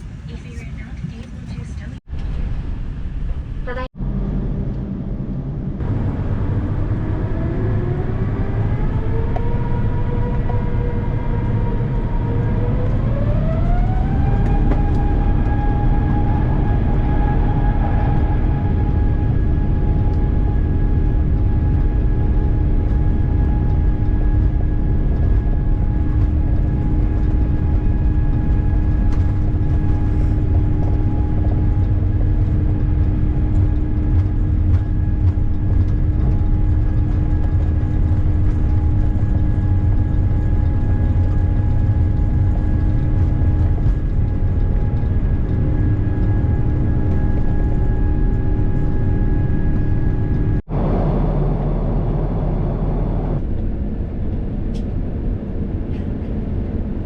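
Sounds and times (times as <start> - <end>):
engine and airflow rumble: 0.0 - 57.0
steady hums: 0.0 - 57.0.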